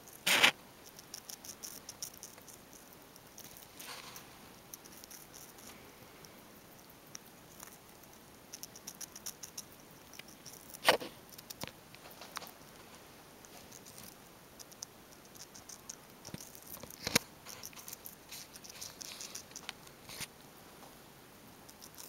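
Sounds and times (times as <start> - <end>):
hamster crunching pepper: 0.0 - 12.7, 13.4 - 20.3, 21.6 - 22.0.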